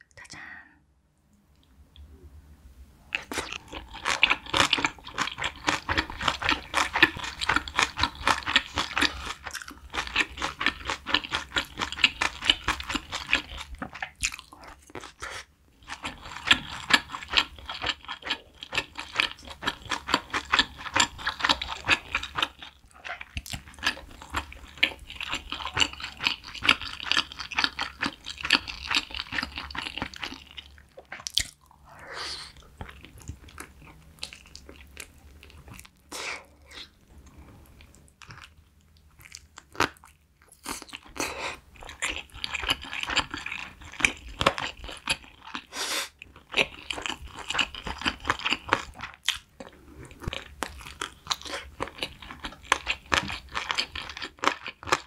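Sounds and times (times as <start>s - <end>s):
person chewing crunchy food: 3.1s - 55.0s.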